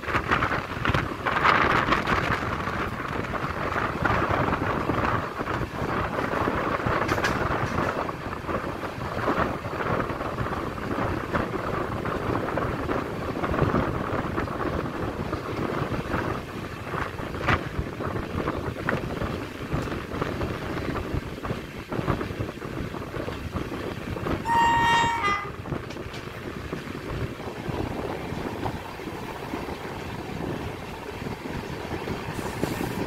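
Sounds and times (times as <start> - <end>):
wind buffeting microphone: 0.0 - 24.5, 25.5 - 33.0
train wheels rumbling on track: 0.0 - 33.0.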